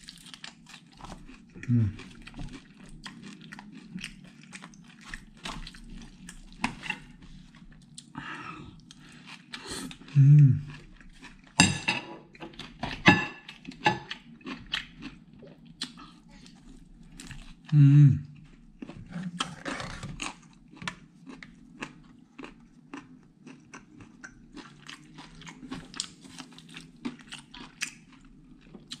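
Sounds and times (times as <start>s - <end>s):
person chewing and crunching food: 0.0s - 29.0s.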